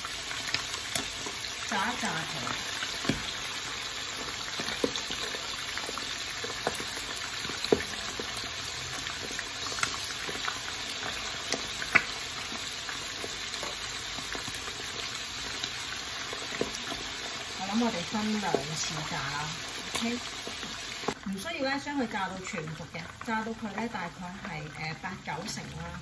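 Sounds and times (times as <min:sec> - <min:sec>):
chicken sizzling in oil: 0:00.0 - 0:26.0.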